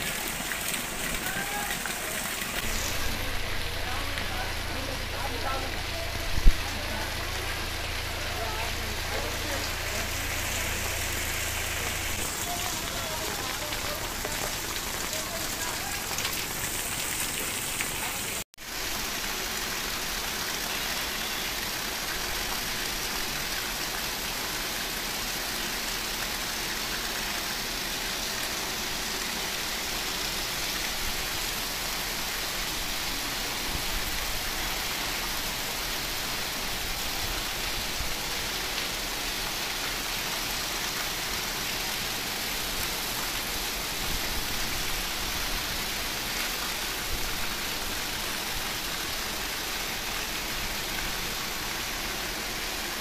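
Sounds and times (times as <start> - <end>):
heavy rain hiss: 0.0 - 53.0.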